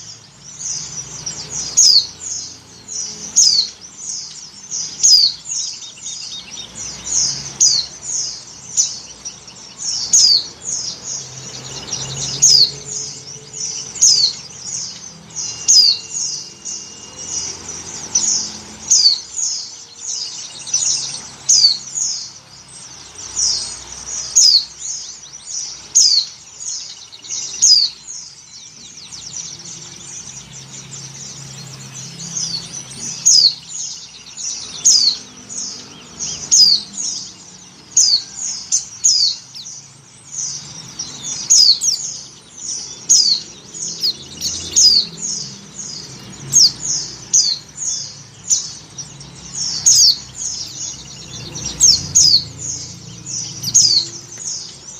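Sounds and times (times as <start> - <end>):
small bird rapid high chirps: 0.0 - 54.9.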